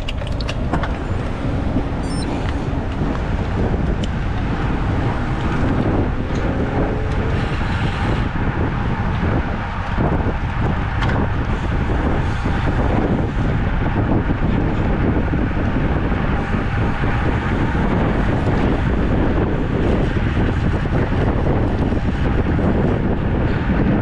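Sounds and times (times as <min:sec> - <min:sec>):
road and tyre noise: 0:00.0 - 0:24.0
wind rushing over microphone: 0:00.0 - 0:24.0.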